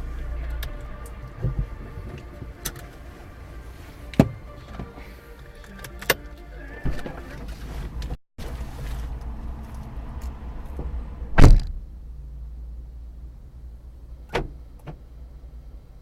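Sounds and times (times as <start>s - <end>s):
low rumble of car: 0.0s - 16.0s.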